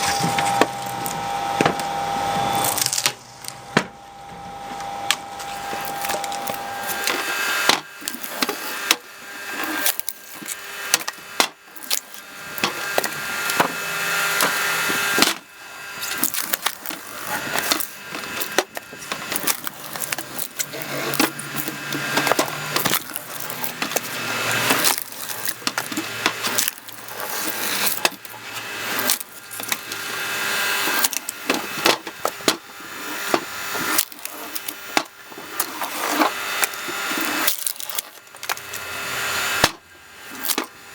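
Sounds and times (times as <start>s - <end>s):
logs cracking and splintering: 2.5s - 3.2s, 5.3s - 40.9s.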